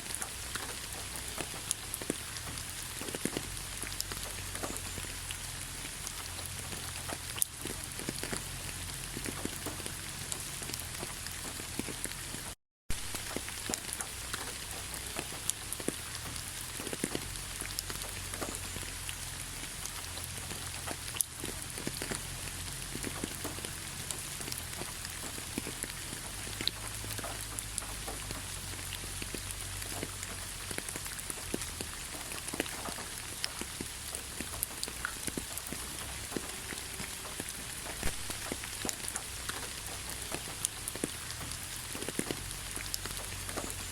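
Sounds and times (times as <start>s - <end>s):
rain drops pattering on a surface: 0.0s - 43.9s.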